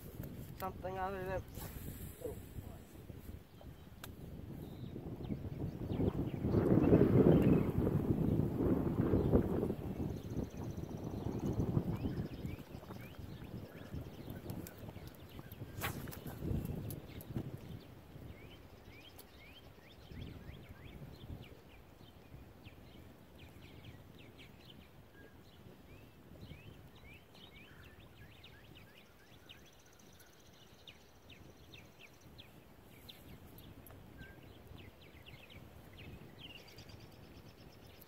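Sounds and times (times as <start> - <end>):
small birds chirping: 0.0 - 38.0
wind rumble on microphone: 0.0 - 38.0.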